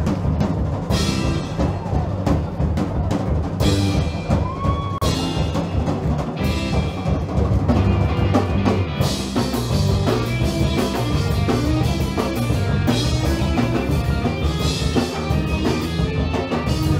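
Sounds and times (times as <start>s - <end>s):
bass notes: 0.0s - 16.9s
drum kit played hard: 0.0s - 16.9s
guitar: 0.8s - 16.9s.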